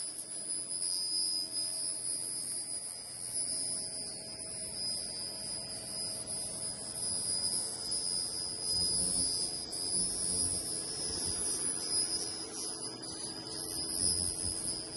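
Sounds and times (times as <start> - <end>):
laser cleaner buzzing with whine: 0.0 - 14.9.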